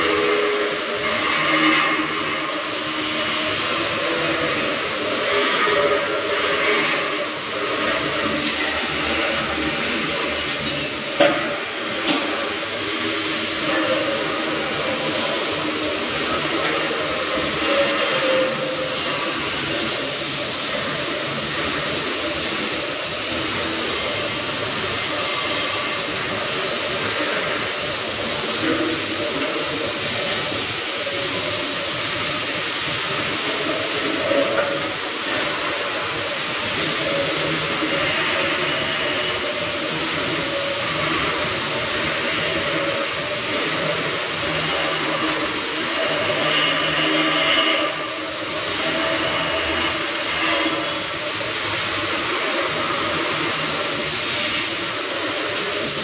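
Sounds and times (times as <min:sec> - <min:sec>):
arc welding crackling hiss: 0:00.0 - 0:56.0.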